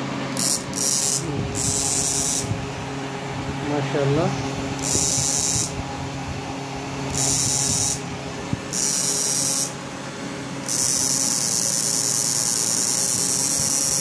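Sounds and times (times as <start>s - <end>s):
high hissing whine: 0.0s - 14.0s.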